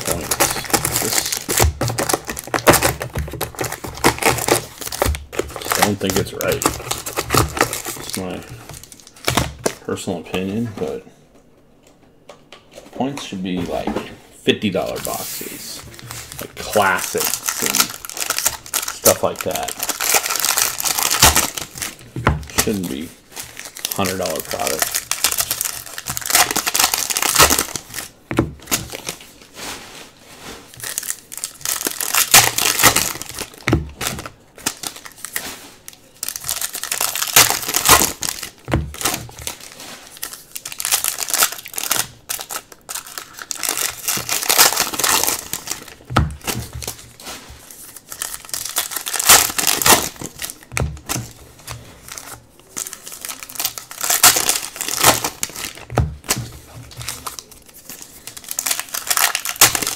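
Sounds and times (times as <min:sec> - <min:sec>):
foil packs crinkling: 0:00.0 - 0:09.8, 0:14.8 - 0:59.9.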